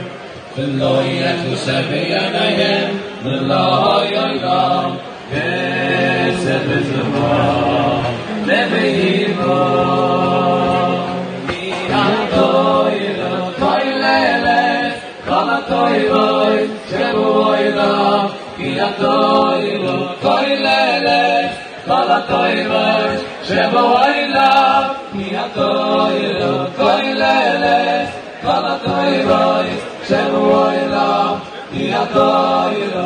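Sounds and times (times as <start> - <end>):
men's choir singing in harmony: 0.0 - 33.0.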